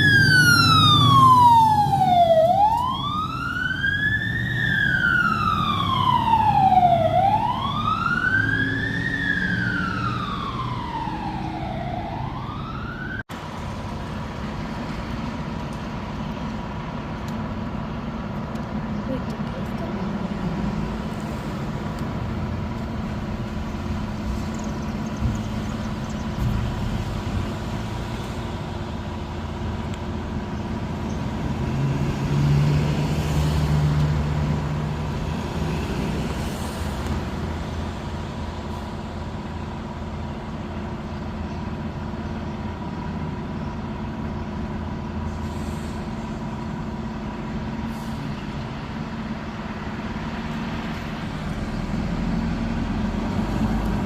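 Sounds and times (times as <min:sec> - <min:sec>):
diesel engine running: 0:00.0 - 0:12.7, 0:13.3 - 0:54.0.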